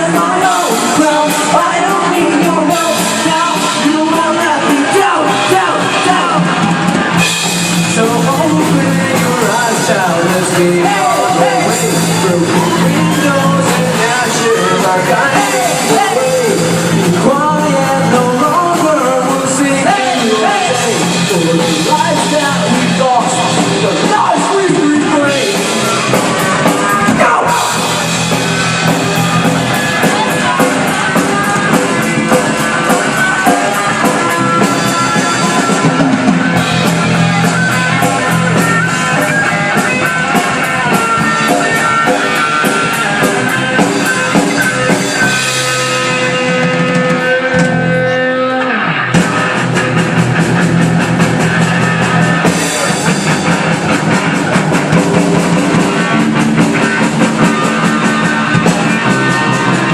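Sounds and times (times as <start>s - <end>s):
live rock band instrumental: 0.0s - 59.9s.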